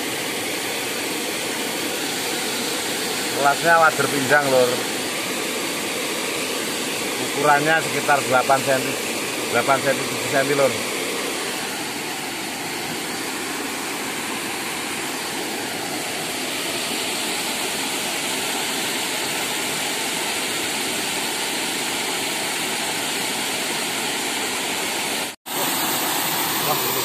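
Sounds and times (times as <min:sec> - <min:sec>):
water pouring over weir: 0:00.0 - 0:27.0.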